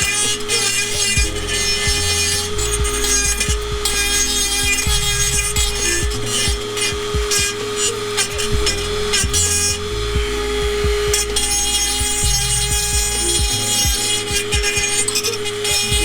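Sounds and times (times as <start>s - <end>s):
rotary tool grinding metal: 0.0s - 16.0s.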